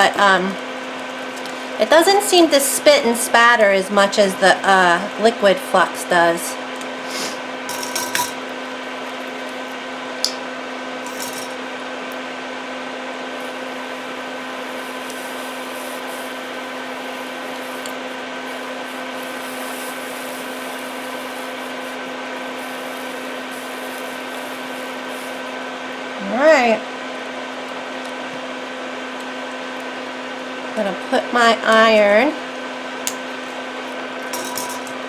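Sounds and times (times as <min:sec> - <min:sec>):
electric fan whirring: 0:00.0 - 0:35.0.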